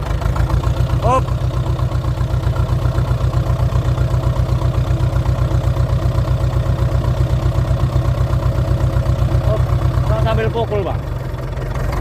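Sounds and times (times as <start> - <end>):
bulldozer diesel engine idling: 0.0 - 12.0.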